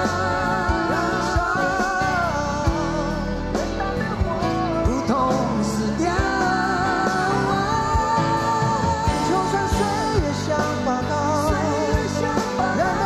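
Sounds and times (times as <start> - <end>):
drums and bass: 0.0 - 13.0
man singing: 0.0 - 13.0.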